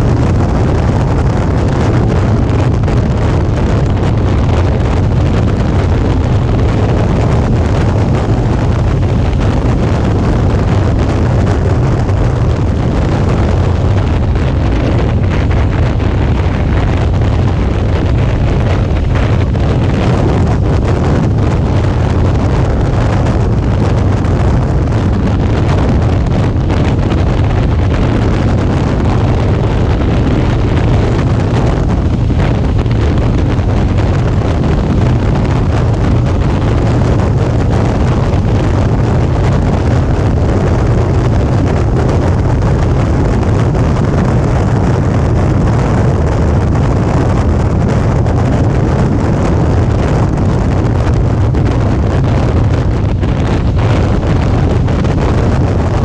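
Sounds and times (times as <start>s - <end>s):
motorcycle engine rumbling: 0.0s - 56.0s
wind rush over microphone: 0.0s - 56.0s.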